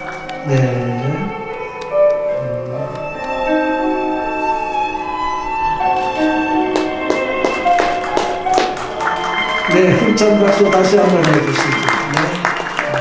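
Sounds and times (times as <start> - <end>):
violin slow melody: 0.0 - 13.0.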